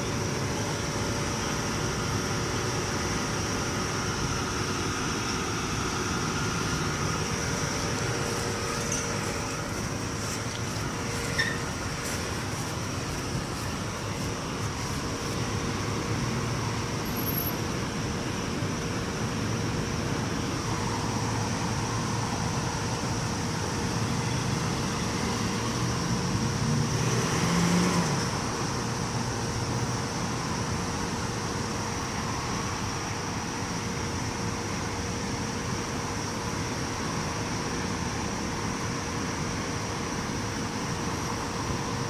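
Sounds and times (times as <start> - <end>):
road traffic noise: 0.0 - 42.0.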